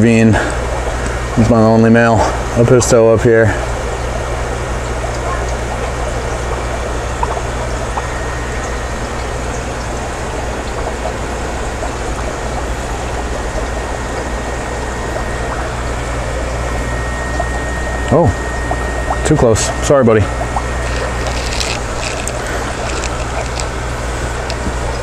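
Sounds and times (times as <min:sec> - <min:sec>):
aquarium filter trickling and bubbling: 0:00.0 - 0:25.0
low steady hum: 0:00.0 - 0:25.0.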